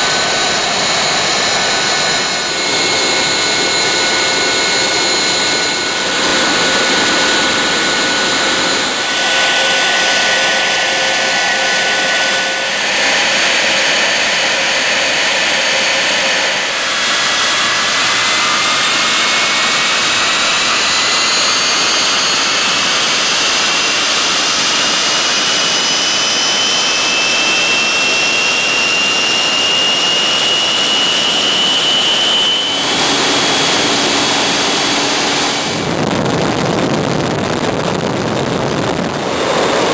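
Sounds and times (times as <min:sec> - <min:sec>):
jet engine roar with high whine: 0:00.0 - 0:39.9.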